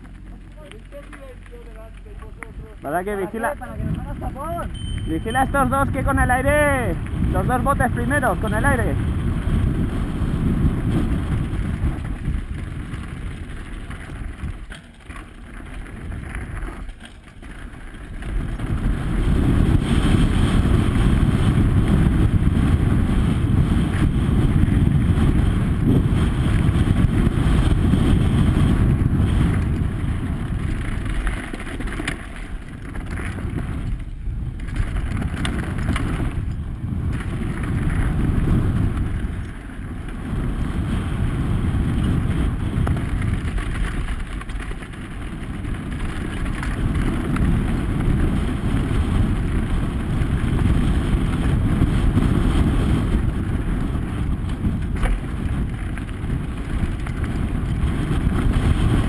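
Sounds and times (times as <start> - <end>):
bike tyres rolling over gravel: 0.0 - 59.0
wind buffeting microphone: 0.0 - 59.0.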